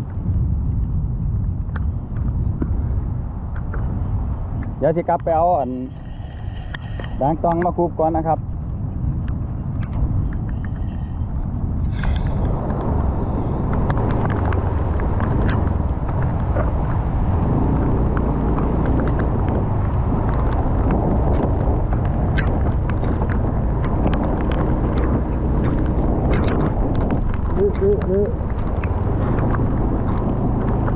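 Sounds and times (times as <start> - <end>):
rain ticking on microphone: 0.0 - 30.9
storm wind buffeting microphone: 0.0 - 30.9.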